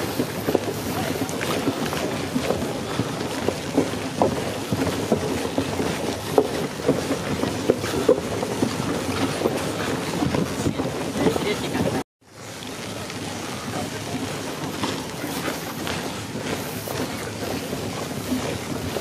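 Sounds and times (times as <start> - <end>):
footsteps on floating walkway: 0.0 - 19.0
steady background noise: 0.0 - 19.0.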